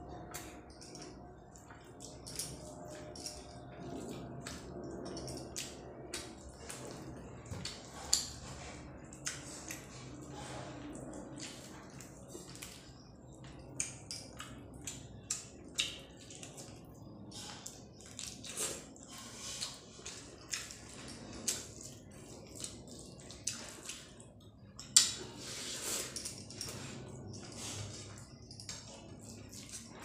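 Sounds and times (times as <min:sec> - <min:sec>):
wet chewing sounds: 0:00.0 - 0:30.0.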